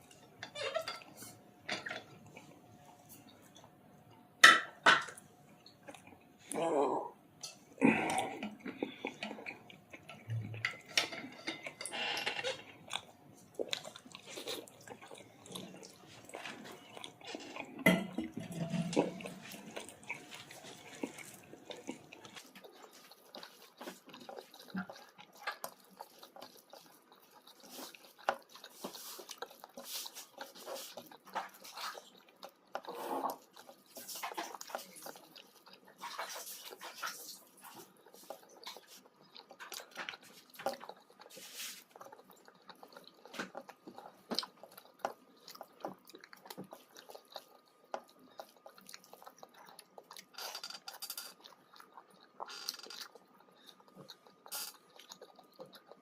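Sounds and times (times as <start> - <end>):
person chewing food: 0.0 - 6.8, 7.4 - 56.0
bites or handling sounds: 7.8 - 56.0.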